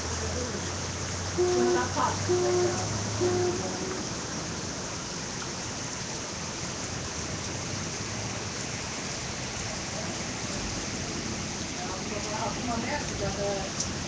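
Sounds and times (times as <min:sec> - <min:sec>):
steady rain on wet street: 0:00.0 - 0:14.0.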